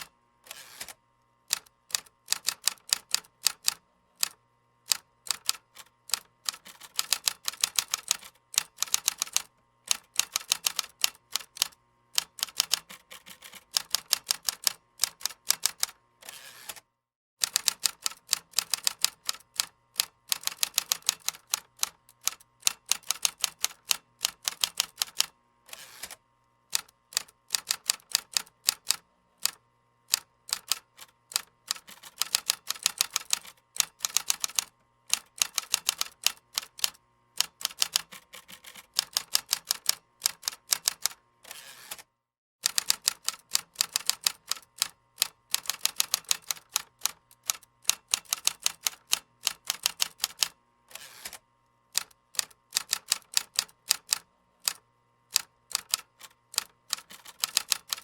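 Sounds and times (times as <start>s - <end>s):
typing on computer keyboard: 0.7s - 16.8s, 17.4s - 25.3s, 26.0s - 41.2s, 42.6s - 51.4s, 52.0s - 58.0s.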